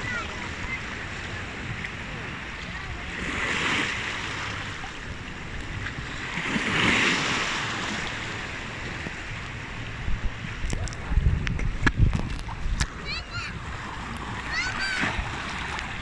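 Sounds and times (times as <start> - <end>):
seawater surging through rocks: 0.0 - 16.0.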